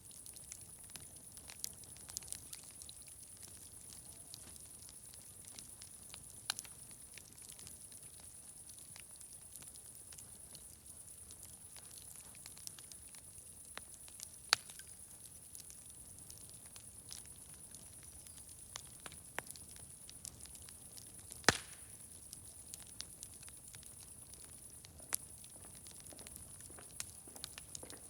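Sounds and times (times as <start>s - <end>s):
wood fire crackling: 0.0s - 28.0s
loud pops from fire: 0.1s - 28.0s.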